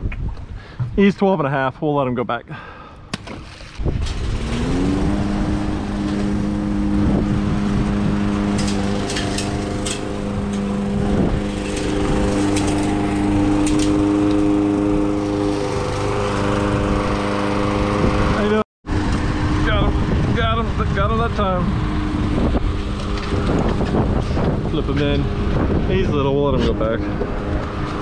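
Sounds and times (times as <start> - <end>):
lawn mower engine starting and running: 3.2 - 26.0, 26.6 - 28.0.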